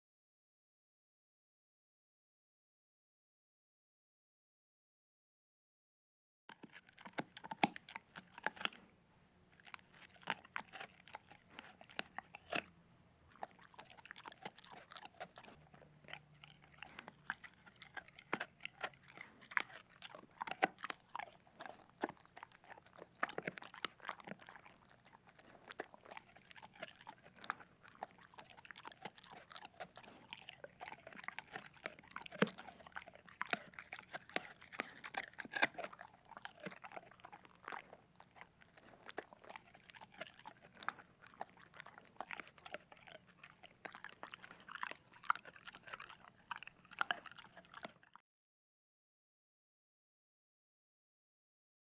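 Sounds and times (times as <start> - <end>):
dog chewing and crunching: 6.5 - 48.2.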